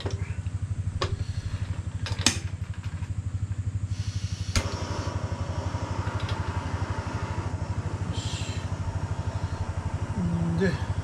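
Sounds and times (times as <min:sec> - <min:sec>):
low motor throb: 0:00.0 - 0:02.1, 0:03.1 - 0:11.0.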